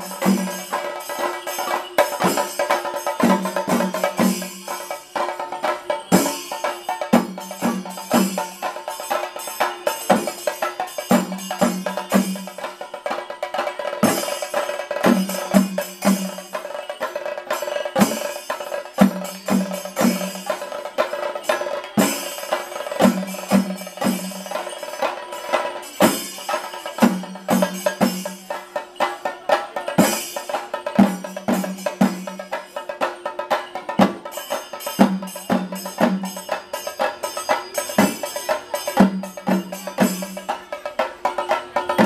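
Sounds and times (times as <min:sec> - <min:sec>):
drums beaten with sticks: 0:00.0 - 0:42.0.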